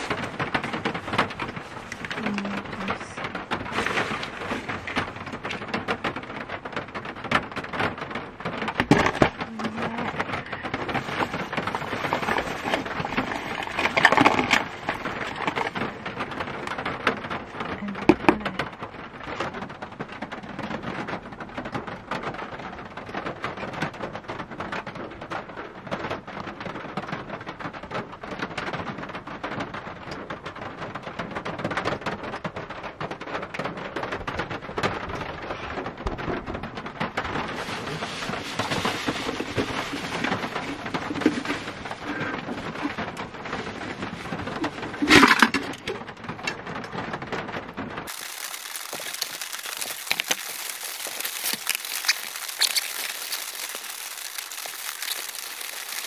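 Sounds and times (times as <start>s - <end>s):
heavy rain on a roof: 0.0s - 56.0s
knocks and rustles: 0.0s - 56.0s.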